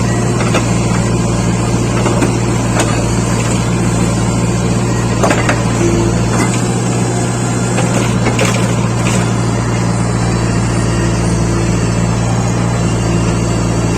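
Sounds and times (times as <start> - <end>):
diesel engine running steadily: 0.0 - 13.9.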